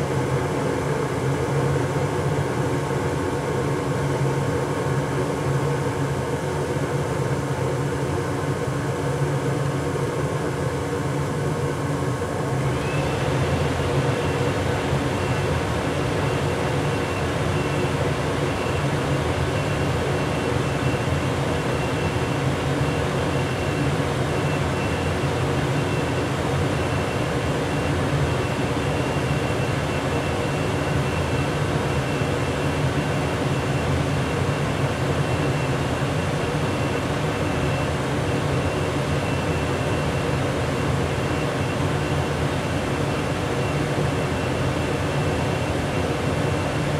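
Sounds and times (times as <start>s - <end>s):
thin high whine: 9.0s - 46.9s.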